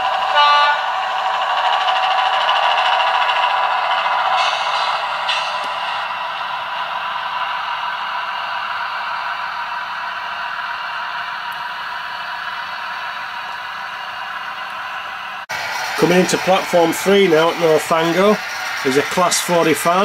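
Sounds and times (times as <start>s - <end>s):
model locomotive engine drone: 0.0s - 20.0s
wheels rattling on track: 0.0s - 20.0s.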